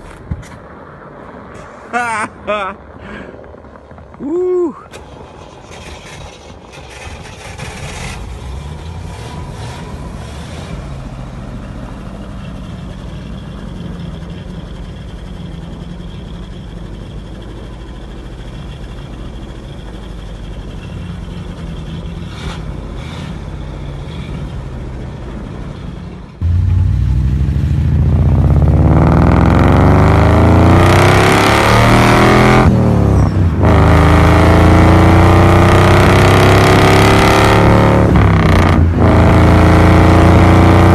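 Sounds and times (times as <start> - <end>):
car engine rumbling and accelerating: 0.0 - 40.9.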